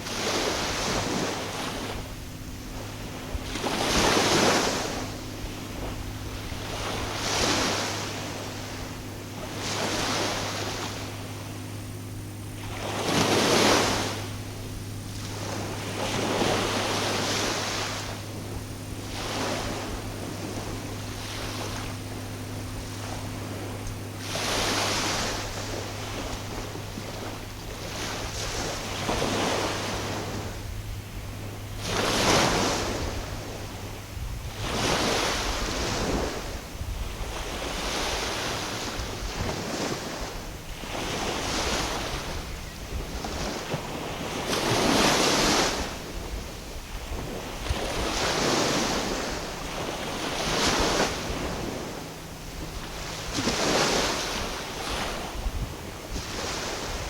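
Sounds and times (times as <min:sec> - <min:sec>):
small waves washing in: 0:00.0 - 0:57.0
wind on microphone: 0:00.0 - 0:57.0.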